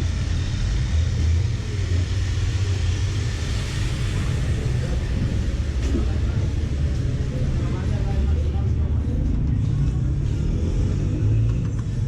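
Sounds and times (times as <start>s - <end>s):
motor vehicle rumbling: 0.0s - 12.0s.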